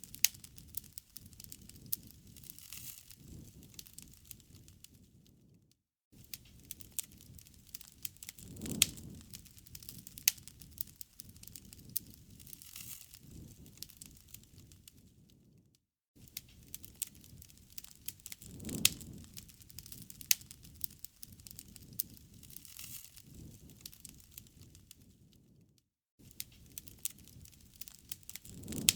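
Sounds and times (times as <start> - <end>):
campfire crackling and popping: 0.0 - 5.5, 6.2 - 15.6, 16.2 - 25.6, 26.2 - 28.9.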